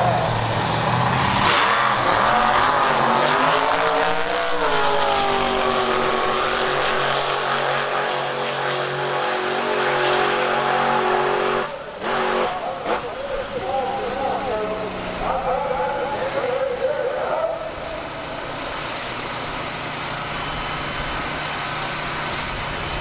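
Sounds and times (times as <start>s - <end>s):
drag racing car accelerating: 0.0s - 23.0s.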